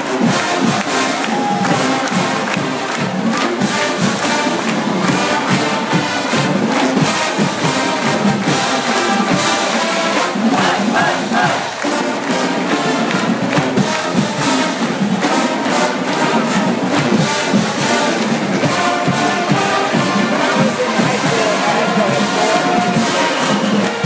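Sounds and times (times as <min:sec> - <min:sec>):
marching band playing brass tune: 0:00.0 - 0:24.0.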